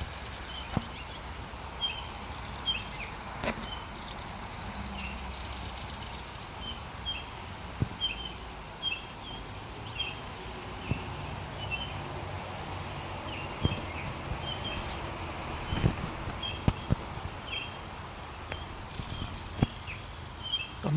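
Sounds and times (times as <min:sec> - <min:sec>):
distant traffic rumble: 0:00.0 - 0:20.9.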